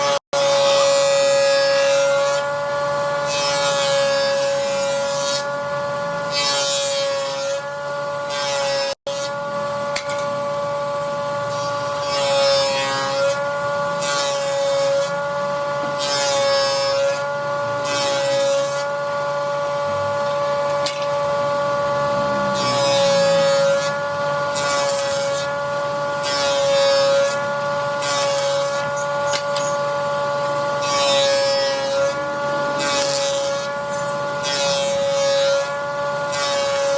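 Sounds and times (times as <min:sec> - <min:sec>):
woodworking machine motor whine: 0:00.0 - 0:36.9.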